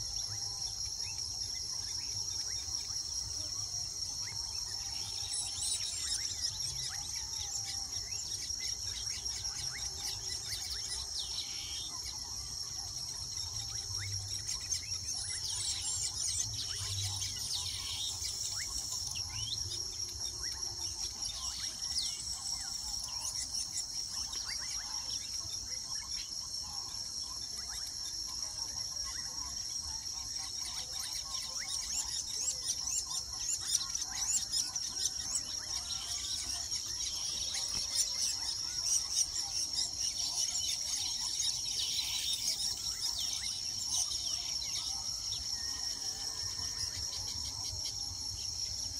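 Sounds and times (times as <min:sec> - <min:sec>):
high-pitched insect drone: 0:00.0 - 0:48.9
weaver birds chattering: 0:00.1 - 0:48.9.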